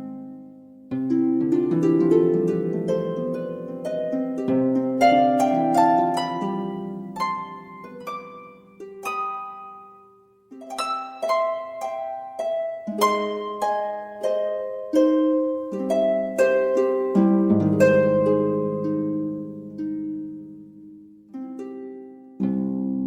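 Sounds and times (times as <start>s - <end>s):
gentle instrumental music: 0.0s - 23.0s.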